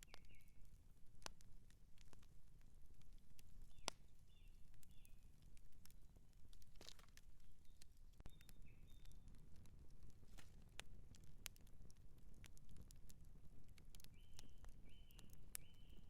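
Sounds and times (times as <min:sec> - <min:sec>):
campfire crackling and popping: 0:00.0 - 0:16.0
low rumble of flames: 0:00.0 - 0:16.0.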